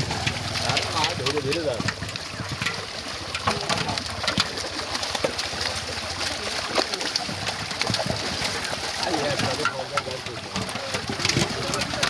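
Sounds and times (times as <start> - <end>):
small splashes and clicks: 0.0 - 12.0.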